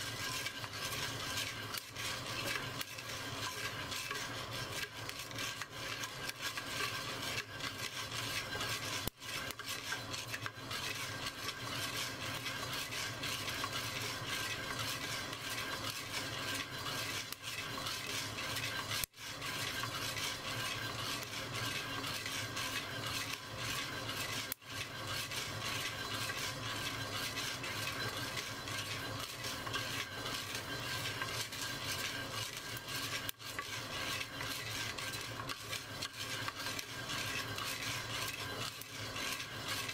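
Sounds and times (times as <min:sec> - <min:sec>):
coffee beans rattling in a pot: 0:00.0 - 0:39.9.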